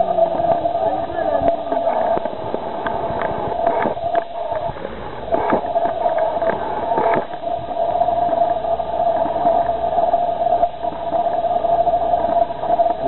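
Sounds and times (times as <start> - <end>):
mid-pitched hum: 0.0 - 13.0
steady hiss: 0.0 - 13.0.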